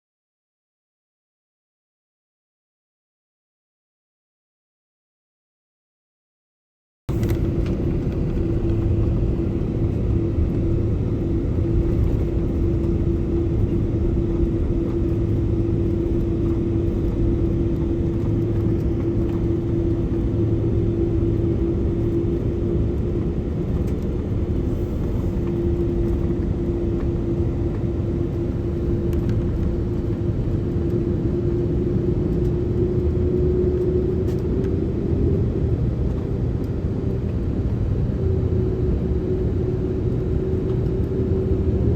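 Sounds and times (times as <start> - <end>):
jet engines rumbling in cabin: 7.1 - 41.9
steady droning tone: 7.1 - 41.9.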